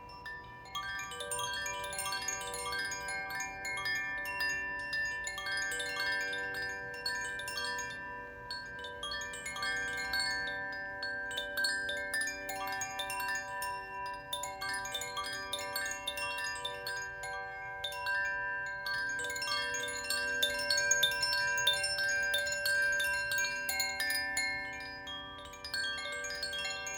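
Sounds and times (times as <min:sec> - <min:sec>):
wind chime ringing: 0:00.0 - 0:26.9.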